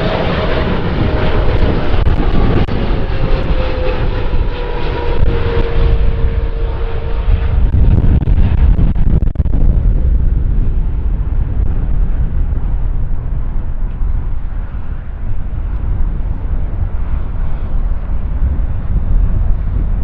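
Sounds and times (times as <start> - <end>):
jet engine rumble: 0.0 - 20.0
wind buffeting microphone: 0.0 - 20.0.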